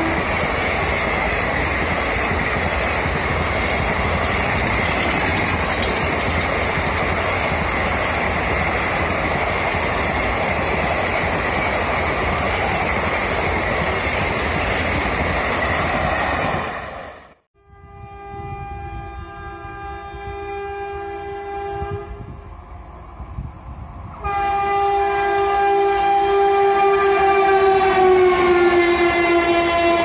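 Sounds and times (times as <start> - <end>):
train coaches passing at speed: 0.0 - 30.0.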